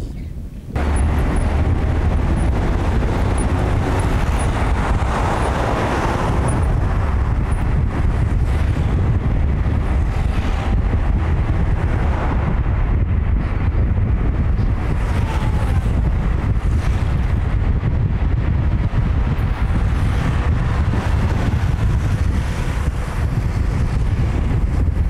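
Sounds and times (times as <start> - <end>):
wind noise: 0.0 - 25.0
engine and tyre rumble: 0.2 - 25.0
traffic noise: 0.6 - 25.0.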